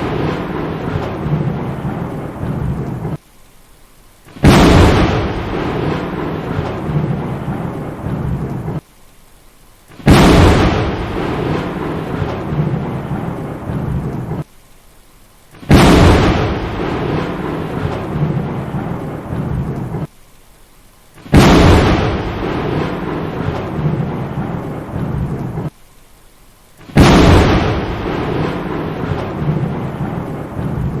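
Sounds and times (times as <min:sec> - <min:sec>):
thunder clap: 0:00.0 - 0:03.2, 0:04.2 - 0:08.8, 0:09.9 - 0:14.5, 0:15.6 - 0:20.1, 0:21.2 - 0:25.8, 0:26.8 - 0:31.0
heavy rain: 0:00.0 - 0:31.0.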